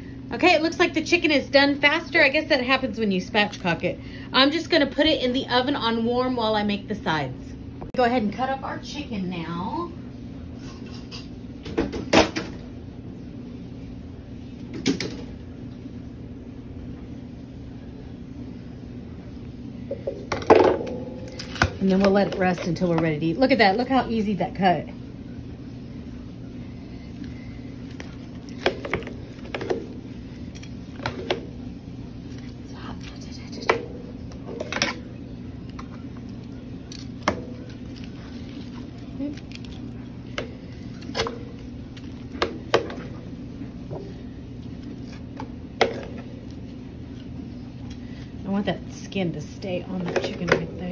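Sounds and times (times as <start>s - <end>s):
low kitchen hum: 0.0s - 50.9s.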